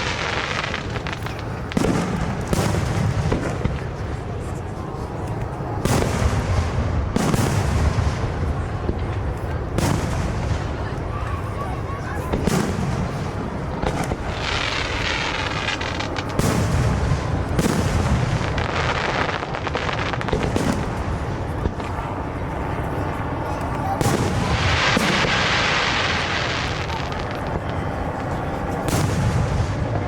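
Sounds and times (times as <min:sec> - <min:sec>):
fireworks booming: 0:00.0 - 0:30.0
fireworks crackle: 0:00.0 - 0:30.0.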